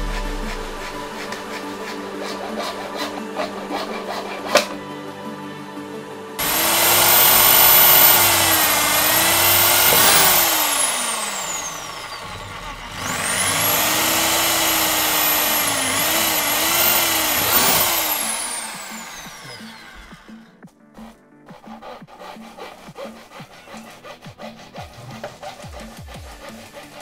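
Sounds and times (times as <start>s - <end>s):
power drill boring plastic pipe: 0.0s - 4.8s, 6.4s - 20.5s, 21.6s - 27.0s.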